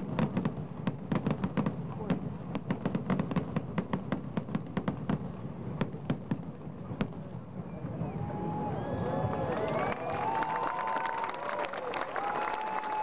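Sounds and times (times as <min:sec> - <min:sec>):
fireworks bursting: 0:00.0 - 0:10.5.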